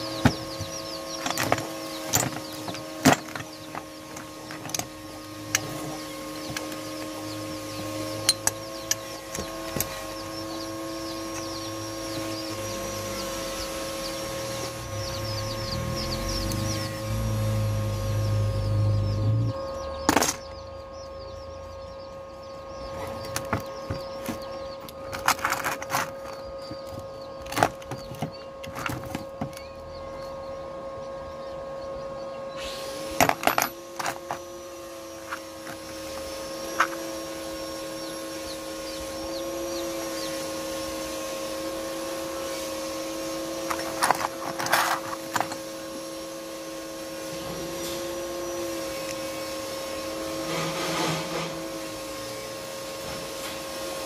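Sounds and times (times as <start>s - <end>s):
birds chirping: 0.0s - 54.0s
steady hum: 0.0s - 54.0s.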